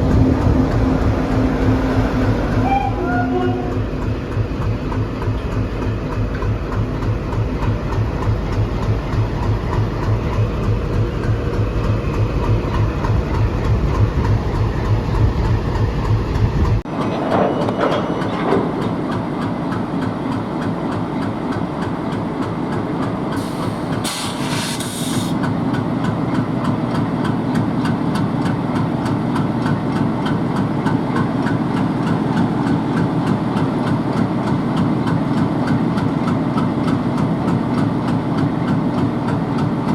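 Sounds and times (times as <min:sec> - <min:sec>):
diesel locomotive engine idling: 0:00.0 - 0:16.9, 0:18.0 - 0:39.9
engine rumble: 0:00.0 - 0:39.9.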